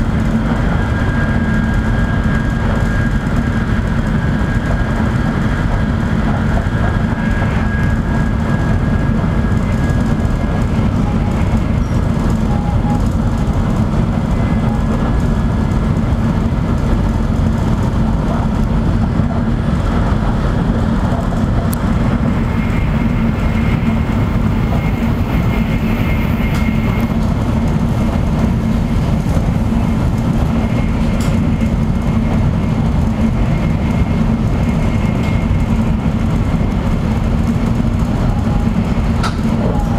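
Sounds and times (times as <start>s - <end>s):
train car running rumble: 0.0s - 39.9s.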